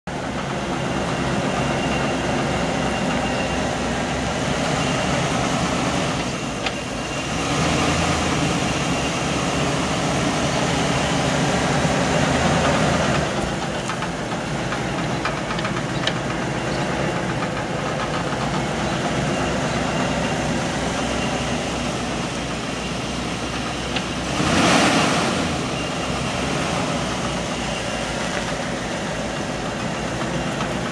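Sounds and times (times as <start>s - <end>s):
pickup engine idling: 0.1s - 30.9s.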